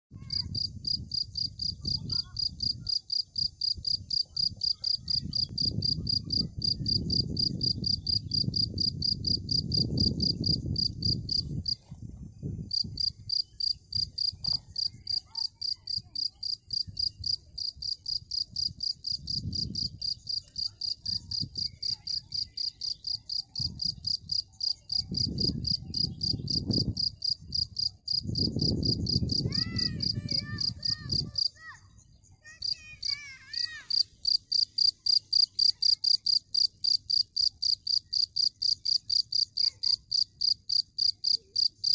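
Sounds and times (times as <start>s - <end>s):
cricket chirping: 0.3s - 11.8s, 12.7s - 31.5s, 33.9s - 41.9s.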